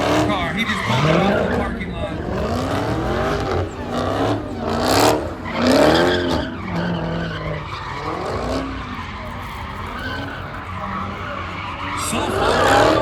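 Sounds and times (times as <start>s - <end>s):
car engine revving: 0.0s - 13.0s
tyres squealing: 0.0s - 13.0s.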